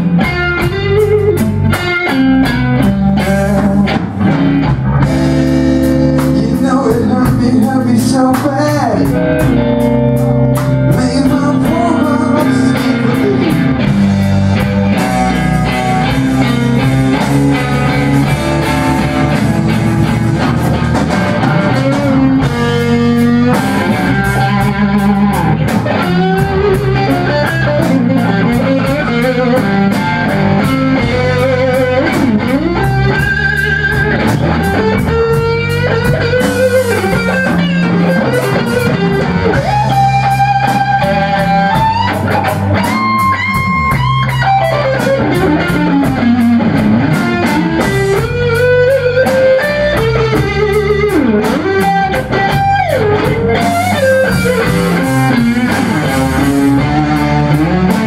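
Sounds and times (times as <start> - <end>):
bass guitar: 0.0 - 58.0
drum kit with cymbals: 0.0 - 58.0
lead electric guitar: 0.0 - 58.0.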